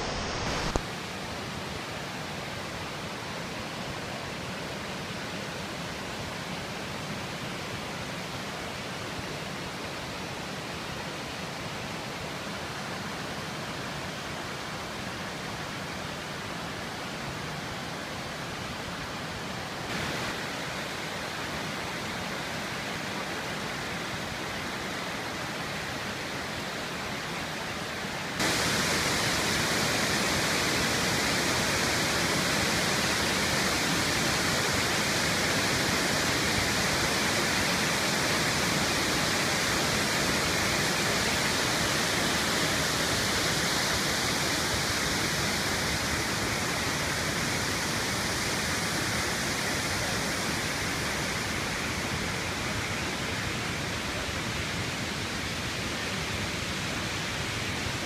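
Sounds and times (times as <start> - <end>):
waterfall rushing: 0.0 - 6.8, 7.5 - 58.0.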